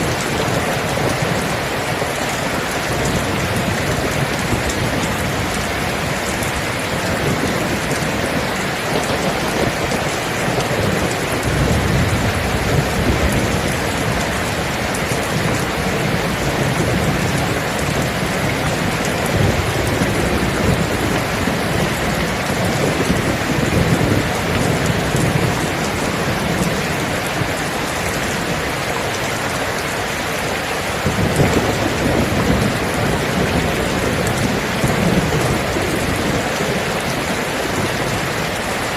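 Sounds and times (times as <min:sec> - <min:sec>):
heavy rain hissing: 0:00.0 - 0:38.9
low thunder rumbling: 0:00.0 - 0:38.9.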